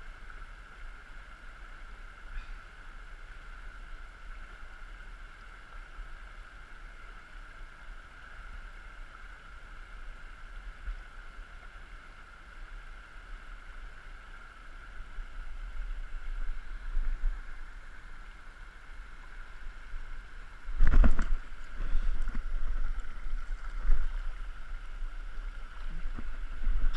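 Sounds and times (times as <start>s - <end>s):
stream flowing: 0.0s - 26.9s.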